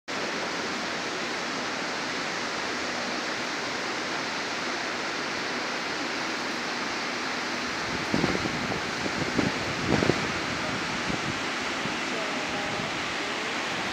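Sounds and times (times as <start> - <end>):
river rapids rushing: 0.1 - 13.9.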